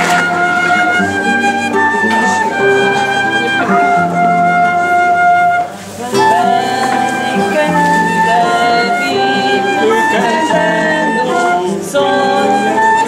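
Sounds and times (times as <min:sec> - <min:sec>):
classical guitar accompaniment: 0:00.0 - 0:13.0
flute melody: 0:00.0 - 0:13.0.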